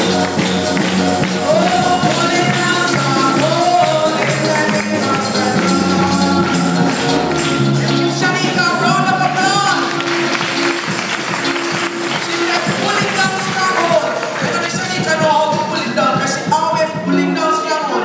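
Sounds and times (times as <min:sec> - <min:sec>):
tambourine shaken in rhythm: 0:00.0 - 0:17.1
held keyboard chords: 0:00.0 - 0:18.0
voices singing church music: 0:00.0 - 0:18.0.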